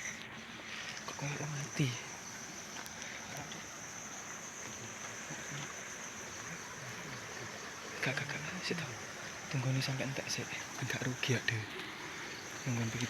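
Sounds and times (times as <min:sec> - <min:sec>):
background hiss: 0:00.0 - 0:13.0
high-pitched insect drone: 0:00.0 - 0:13.0.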